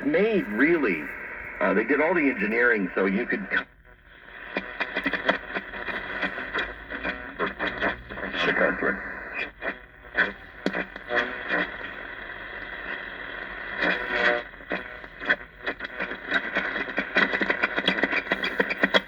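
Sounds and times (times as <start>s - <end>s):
radio crackles and bursts: 0.0s - 19.0s
radio static hiss: 0.0s - 19.0s.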